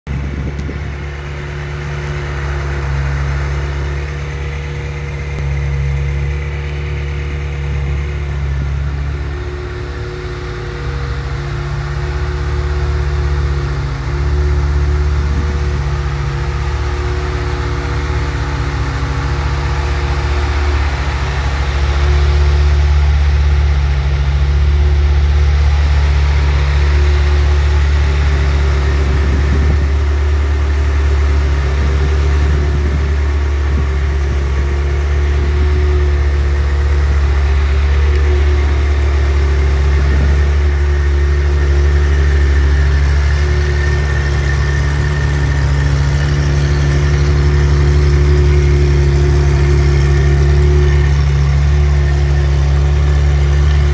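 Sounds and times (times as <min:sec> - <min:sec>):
sports car engine idling: 0:00.1 - 0:53.9.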